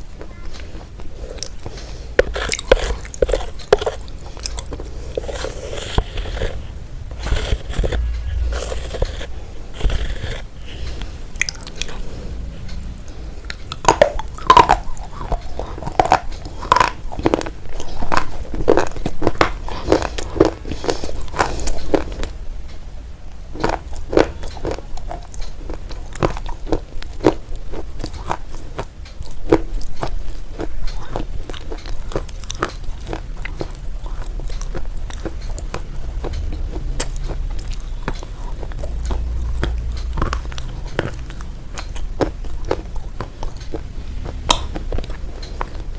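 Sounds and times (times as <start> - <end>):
person chewing crunchy food: 0.0 - 22.4, 23.3 - 45.9.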